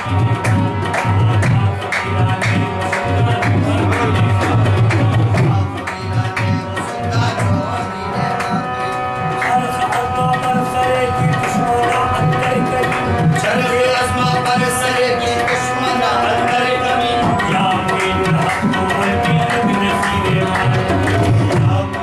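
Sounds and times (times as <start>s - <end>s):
harmonium sustained notes: 0.0s - 22.0s.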